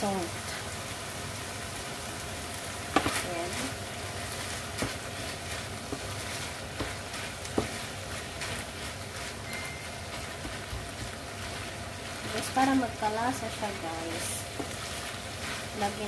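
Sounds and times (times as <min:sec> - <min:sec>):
meat sizzling in a frying pan: 0:00.0 - 0:16.0
wooden spoon stirring: 0:02.9 - 0:16.0.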